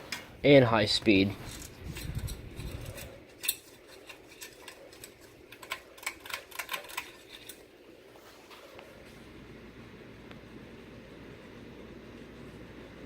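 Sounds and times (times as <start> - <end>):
ceiling fan whirring: 0.0 - 13.0.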